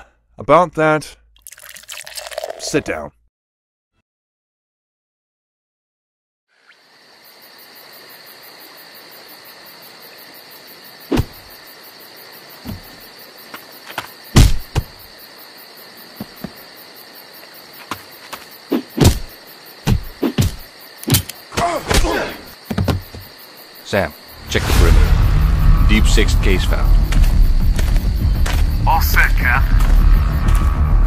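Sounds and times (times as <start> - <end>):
crickets chirping: 1.4 - 3.1, 6.5 - 31.0.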